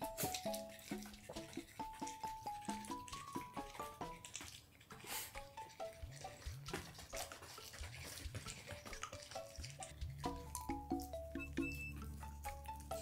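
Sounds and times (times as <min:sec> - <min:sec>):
light background melody: 0:00.0 - 0:13.0.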